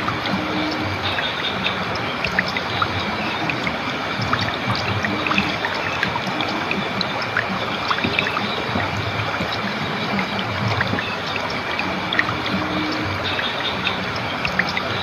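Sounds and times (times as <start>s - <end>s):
shallow stream babbling: 0.0s - 15.0s.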